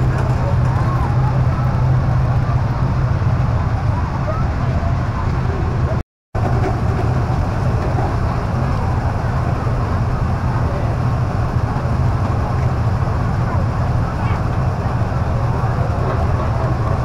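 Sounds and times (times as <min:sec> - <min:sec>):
low traffic rumble: 0:00.0 - 0:17.0.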